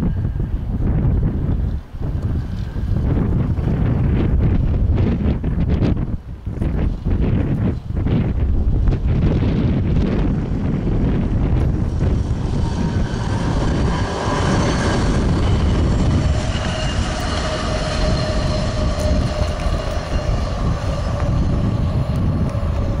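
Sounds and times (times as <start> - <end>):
rail wheels ringing hum: 0.0 - 23.0
truck low rumble: 0.0 - 23.0.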